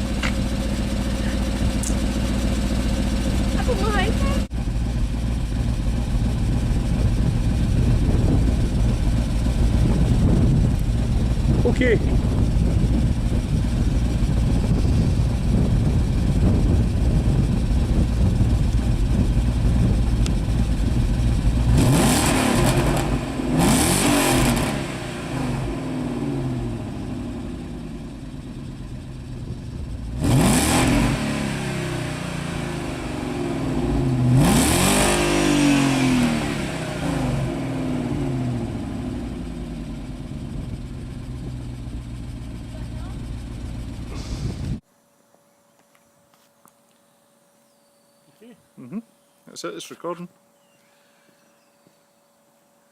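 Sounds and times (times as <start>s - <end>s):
car engine idling and revving: 0.0s - 44.8s.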